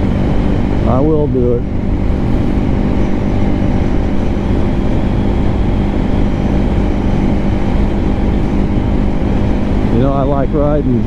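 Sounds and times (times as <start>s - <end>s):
motorcycle engine running: 0.0s - 11.0s
wind and road rush: 0.0s - 11.0s.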